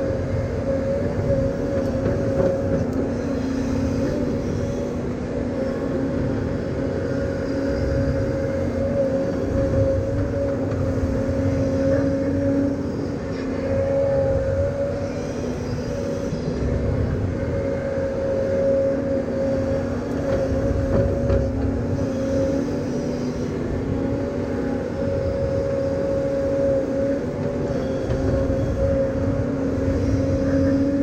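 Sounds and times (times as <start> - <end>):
engine running with whine: 0.0 - 31.0.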